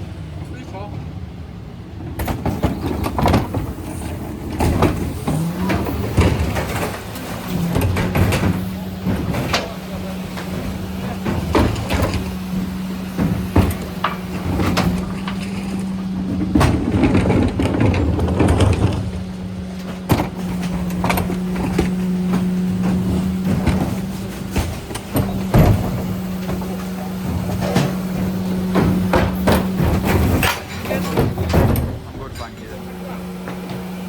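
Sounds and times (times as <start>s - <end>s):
rumbling: 0.0s - 34.0s
truck engine humming: 0.0s - 34.0s
knocks and clatter: 2.0s - 34.0s.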